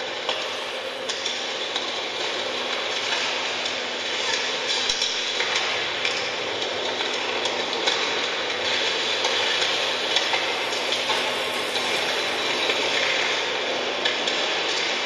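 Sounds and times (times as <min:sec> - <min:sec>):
electronic music hiss and crackle: 0:00.0 - 0:15.0.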